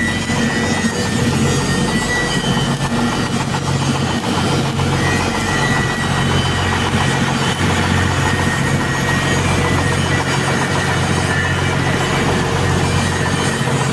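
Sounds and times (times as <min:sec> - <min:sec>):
heavy engine idling: 0:00.0 - 0:13.9.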